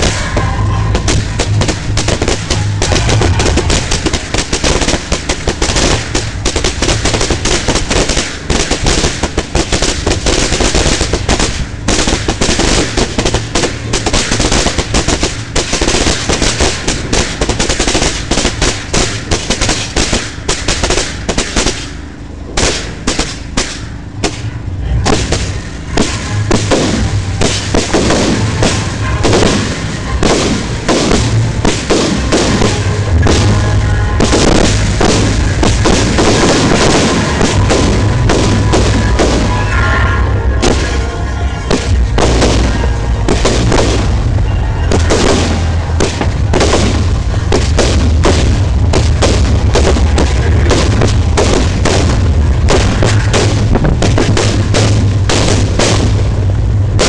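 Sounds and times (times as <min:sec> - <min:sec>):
fireworks cracking and banging: 0:00.0 - 0:57.0.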